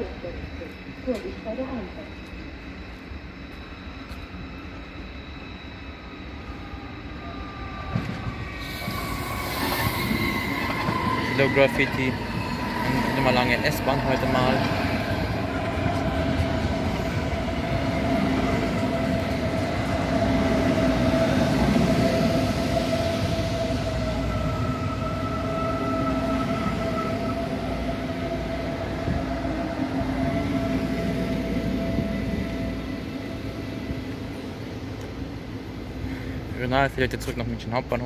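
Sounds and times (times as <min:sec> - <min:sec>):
train wheels rumbling on rails: 0:00.0 - 0:38.0
train whine: 0:00.0 - 0:38.0.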